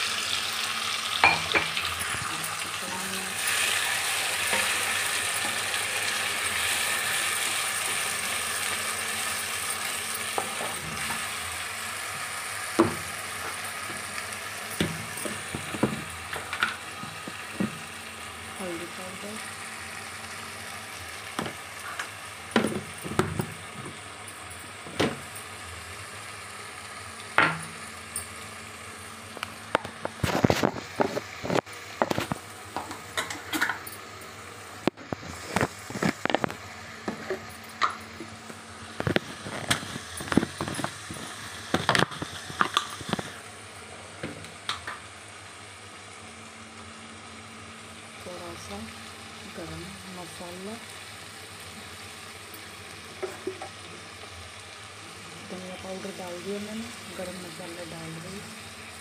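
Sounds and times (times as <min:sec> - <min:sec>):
masala sizzling in a pan: 0:00.0 - 0:59.0.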